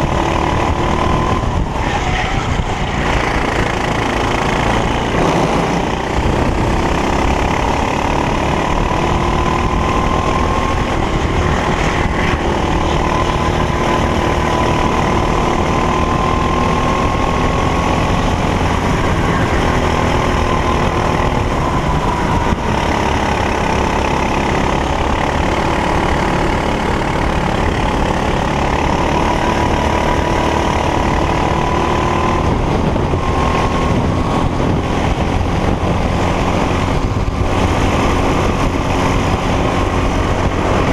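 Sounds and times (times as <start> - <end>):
racing kart engine: 0.0 - 40.9.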